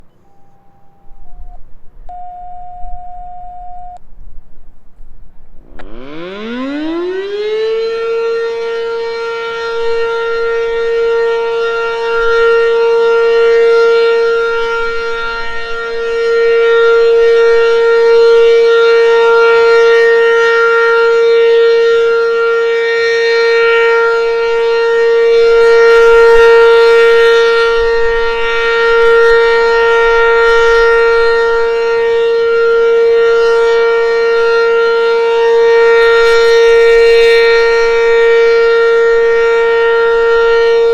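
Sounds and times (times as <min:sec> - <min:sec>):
warning siren steady high tone: 0:00.0 - 0:04.0, 0:05.6 - 0:40.9.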